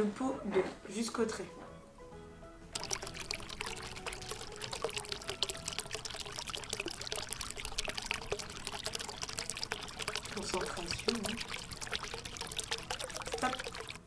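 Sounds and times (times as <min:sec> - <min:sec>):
water trickling into plastic pot: 0:02.7 - 0:14.0.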